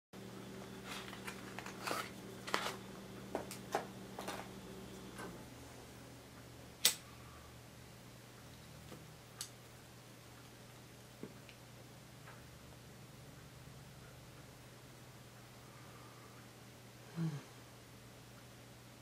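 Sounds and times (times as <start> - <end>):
low steady hum: 0.2 - 19.0.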